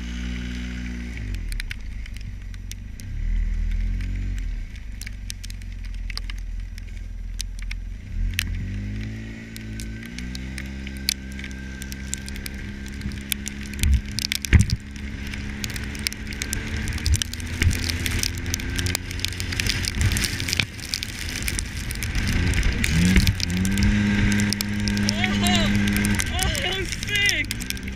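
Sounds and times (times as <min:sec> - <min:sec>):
vehicle engine running: 0:00.0 - 0:27.9
vehicle rattles and knocks: 0:03.7 - 0:27.9.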